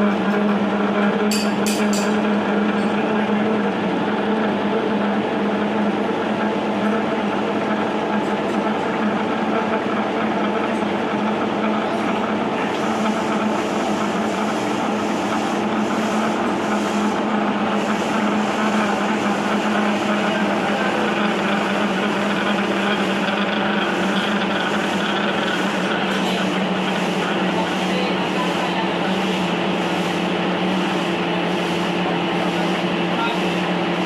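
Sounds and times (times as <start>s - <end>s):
metal lathe motor and gear hum: 0.0s - 34.0s.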